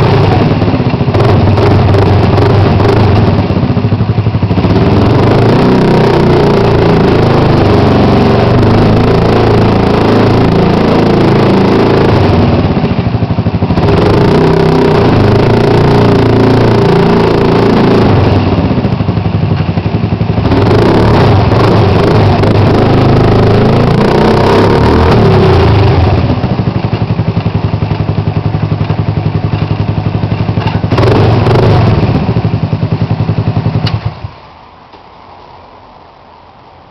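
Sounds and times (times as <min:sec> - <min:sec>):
scooter engine revving: 0:00.0 - 0:34.4.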